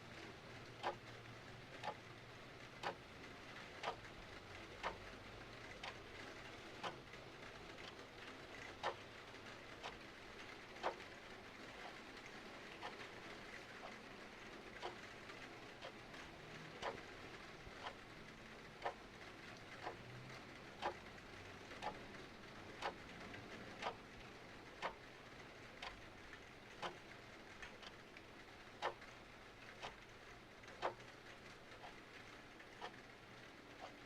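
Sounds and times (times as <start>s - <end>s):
faint hiss of rain: 0.0s - 34.0s
clock ticking: 0.7s - 1.1s, 1.7s - 34.0s.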